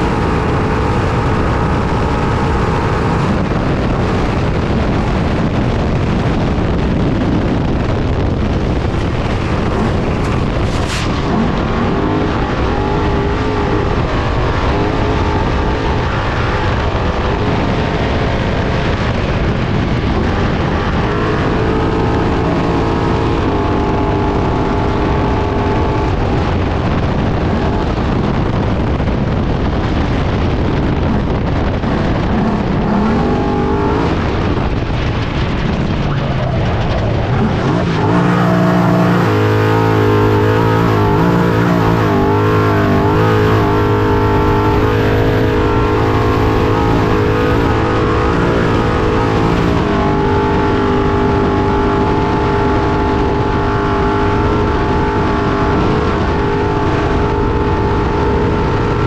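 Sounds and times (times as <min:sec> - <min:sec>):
truck engine running hard: 0:00.0 - 0:59.0
tyre dirt and wind noise: 0:00.0 - 0:59.0.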